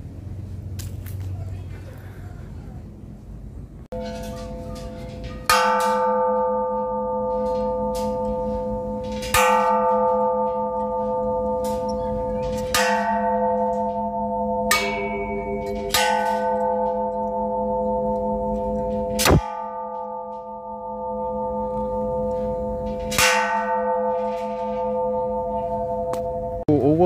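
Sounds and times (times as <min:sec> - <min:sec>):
large metal bells ringing: 0:03.9 - 0:26.7.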